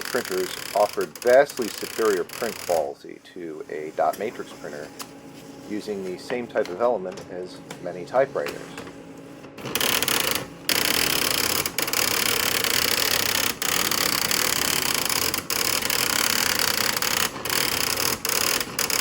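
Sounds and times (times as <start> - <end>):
printer clattering: 0.0 - 3.0, 3.6 - 19.0.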